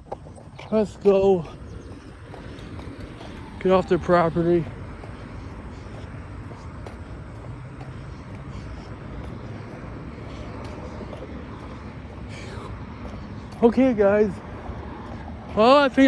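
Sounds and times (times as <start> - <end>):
vehicle rumble and hiss: 0.1 - 16.0.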